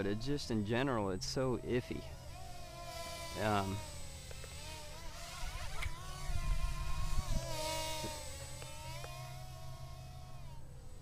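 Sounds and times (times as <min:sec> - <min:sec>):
quadcopter propellers buzzing: 0:00.0 - 0:11.0.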